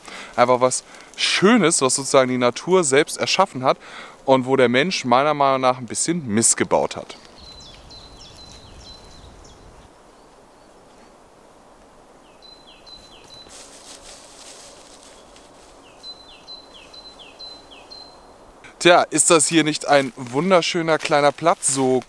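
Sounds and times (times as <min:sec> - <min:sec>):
songbird singing: 0:00.0 - 0:11.2, 0:12.1 - 0:22.0
faint forest background hiss: 0:00.0 - 0:22.0.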